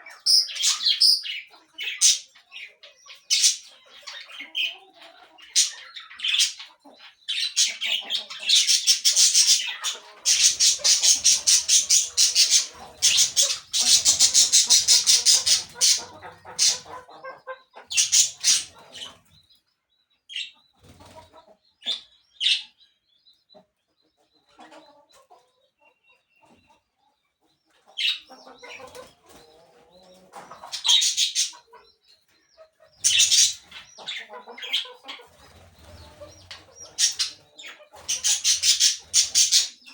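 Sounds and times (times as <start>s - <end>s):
birds squawking and calling: 0.0s - 39.9s.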